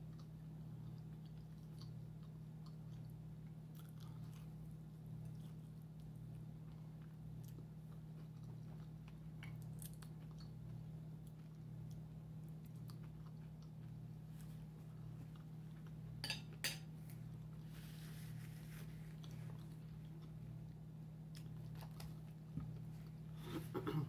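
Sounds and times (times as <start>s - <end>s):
quiet chewing: 0.0s - 16.2s, 17.0s - 24.0s.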